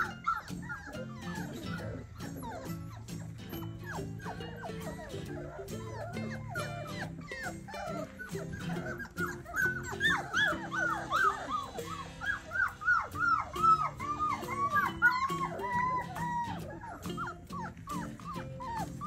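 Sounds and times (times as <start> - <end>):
background music: 0.0 - 19.0
puppies whimpering and yelping: 0.0 - 19.0.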